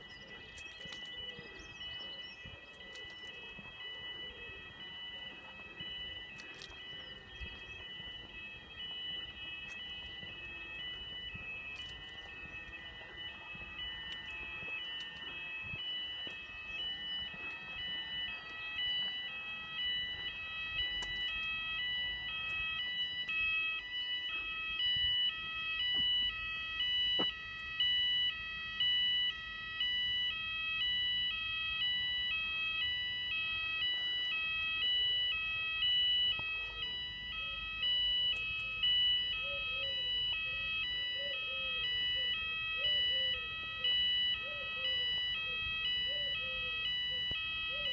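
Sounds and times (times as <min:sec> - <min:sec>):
two-tone fire alarm: 0:00.0 - 0:47.9.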